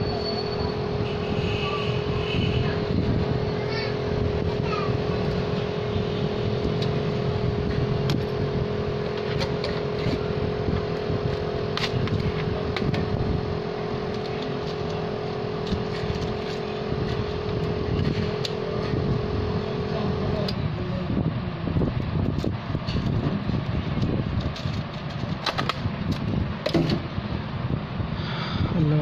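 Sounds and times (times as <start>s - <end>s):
machine hum: 0.0s - 25.2s.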